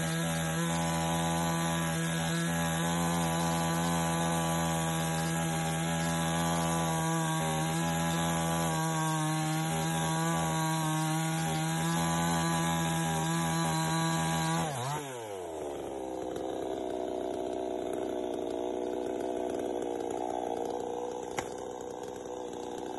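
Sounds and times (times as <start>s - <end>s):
chainsaw cutting tree trunk: 0.0s - 22.9s.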